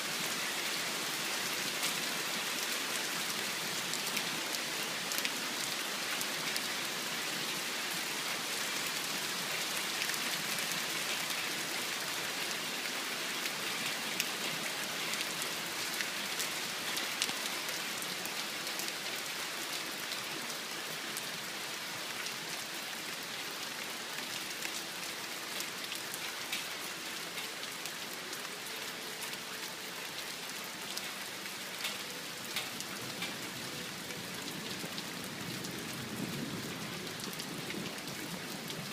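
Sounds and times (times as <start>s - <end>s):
heavy rain pouring: 0.0s - 38.9s
raindrops pattering close by: 0.0s - 38.9s.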